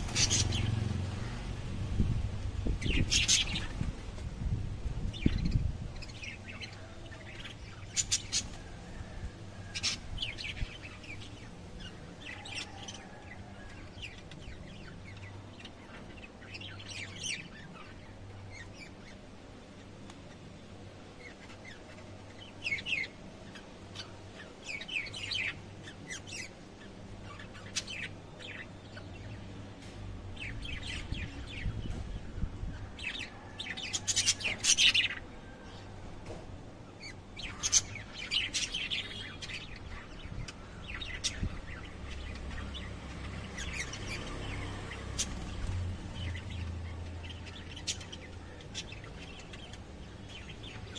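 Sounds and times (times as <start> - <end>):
lovebirds chirping: 0.0 - 50.9.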